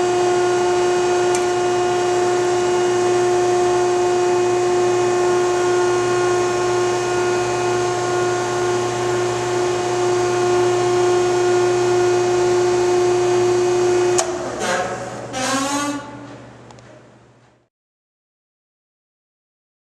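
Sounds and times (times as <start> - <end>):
hydraulic pump whine: 0.0 - 17.3.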